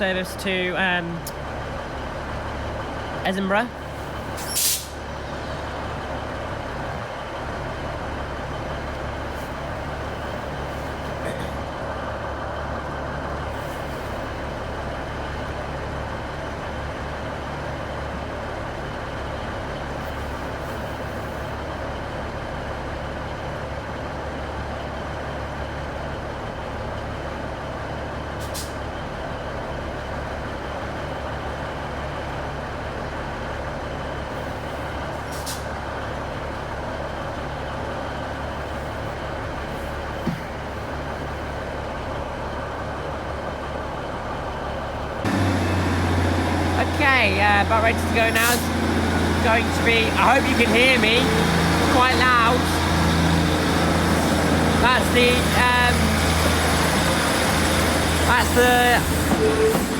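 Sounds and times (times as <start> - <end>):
train engine idling: 0.0 - 59.9.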